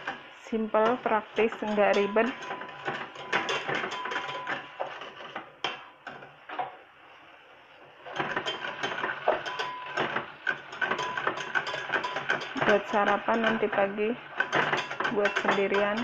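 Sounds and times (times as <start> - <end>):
whisk scraping metal saucepan: 0.0 - 6.3, 8.1 - 16.0.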